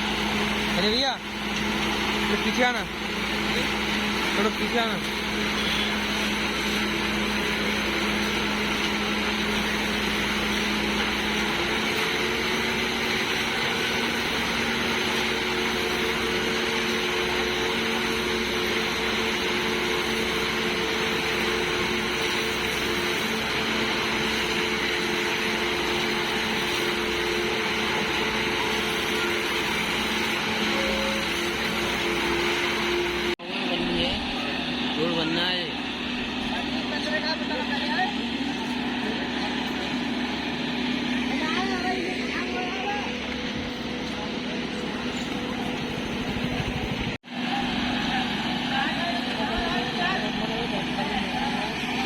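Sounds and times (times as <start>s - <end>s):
construction machinery engine running: 0.0s - 52.0s.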